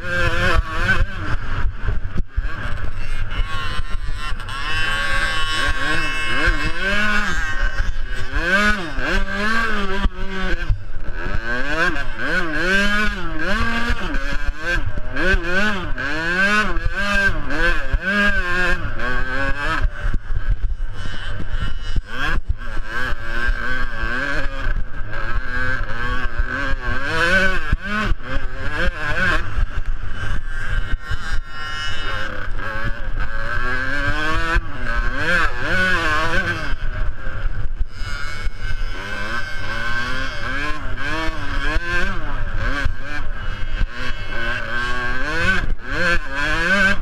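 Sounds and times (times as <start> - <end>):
two-stroke motocross engines racing: 0.0 - 47.0.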